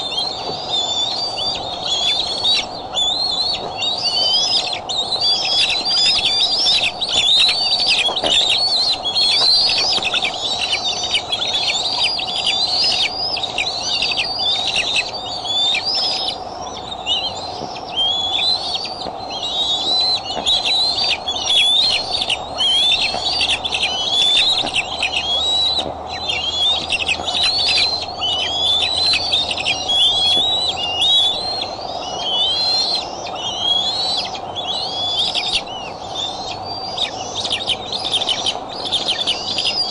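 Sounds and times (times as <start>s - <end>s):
birds chirping: 0.0s - 39.9s
faint steady hum: 0.0s - 39.9s.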